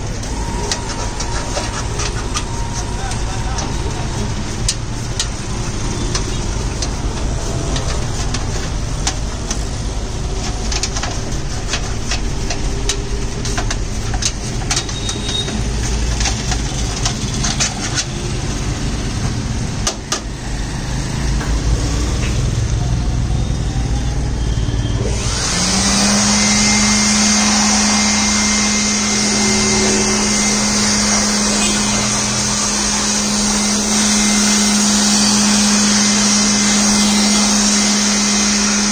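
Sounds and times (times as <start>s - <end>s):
electric air blower running: 0.0s - 23.3s, 24.9s - 38.9s.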